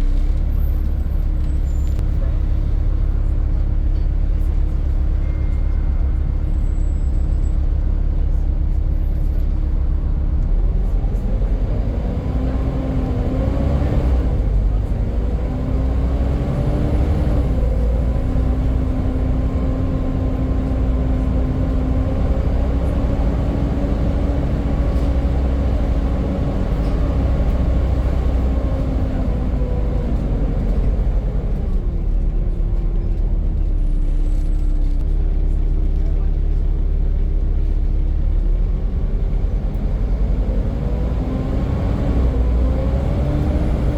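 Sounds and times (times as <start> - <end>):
bus engine with whine: 0.0 - 43.9.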